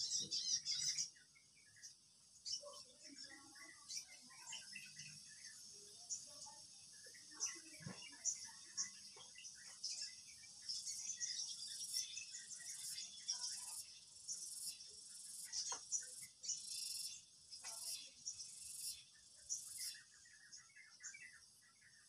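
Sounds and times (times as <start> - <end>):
insects trilling: 2.4 - 20.2.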